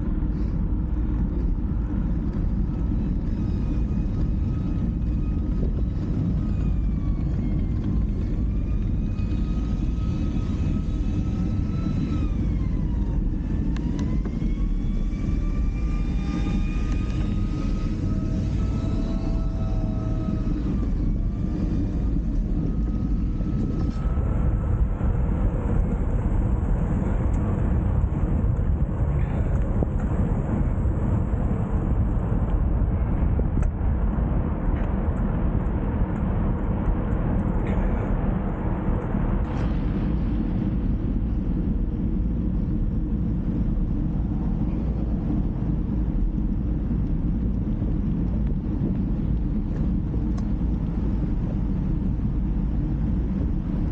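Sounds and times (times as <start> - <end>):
wind and road noise rumble: 0.0 - 53.9.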